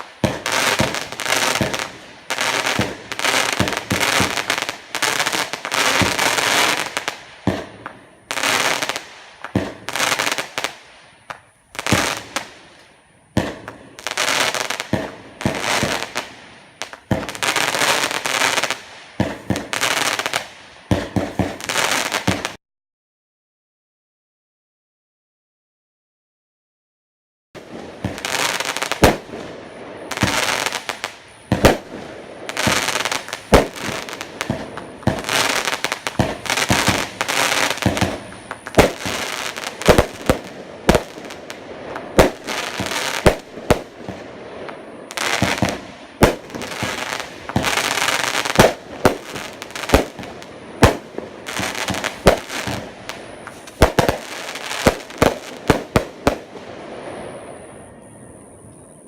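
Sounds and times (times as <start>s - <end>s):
firework crackling: 0.0s - 22.6s, 27.6s - 58.0s.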